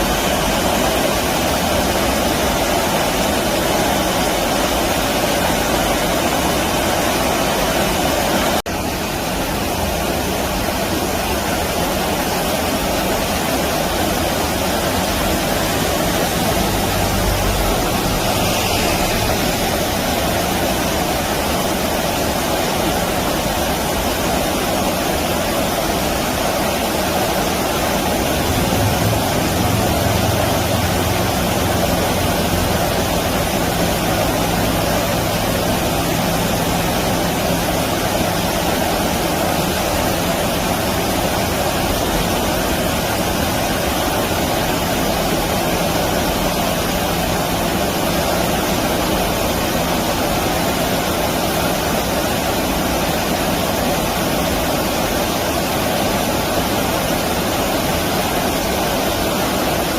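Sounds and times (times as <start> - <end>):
low engine-like drone: 0.0 - 59.9
stream water rushing: 0.0 - 59.9.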